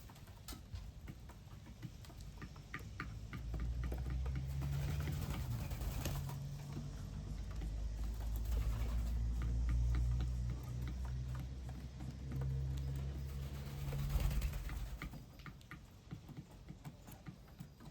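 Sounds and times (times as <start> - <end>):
beaks and feet tapping feeder: 0.0 - 17.9.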